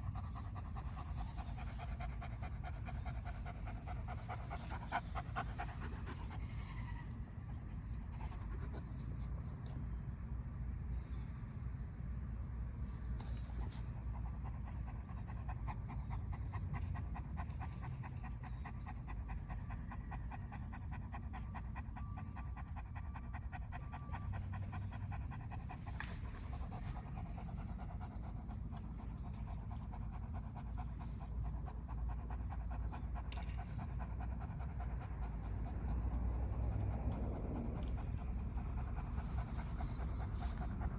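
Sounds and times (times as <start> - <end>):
dog panting: 0.0 - 6.8, 7.5 - 9.8, 12.8 - 40.9.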